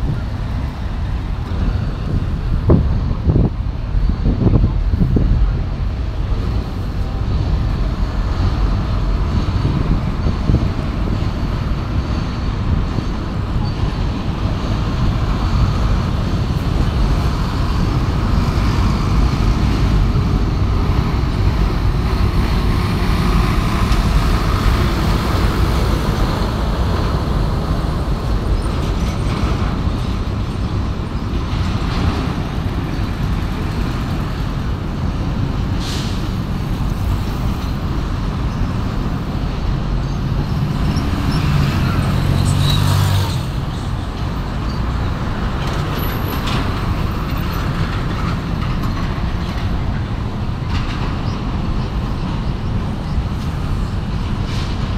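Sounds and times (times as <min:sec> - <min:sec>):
truck rumbling past: 0:00.0 - 0:54.9.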